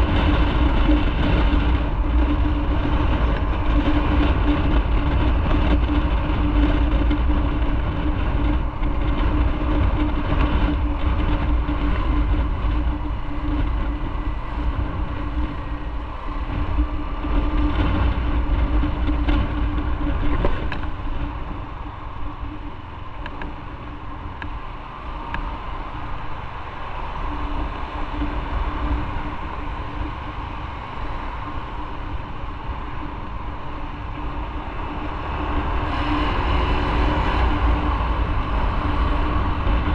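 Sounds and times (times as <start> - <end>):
motorcycle engine running: 0.0 - 39.9
wind rumble: 0.0 - 39.9.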